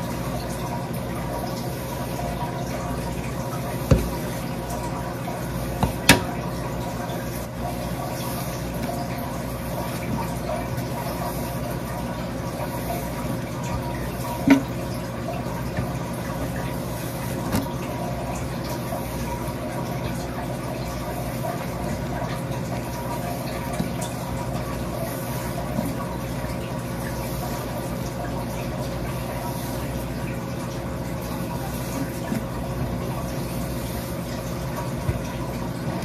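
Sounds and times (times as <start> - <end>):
tap water running into basin: 0.0 - 36.0.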